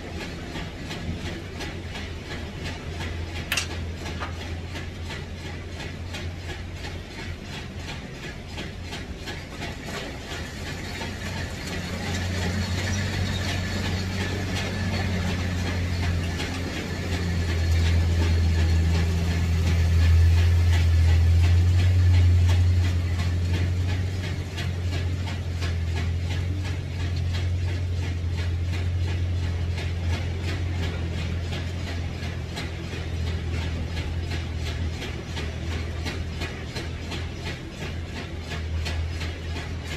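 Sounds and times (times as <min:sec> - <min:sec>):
machine humming with rapid ticking: 0:00.0 - 0:39.9.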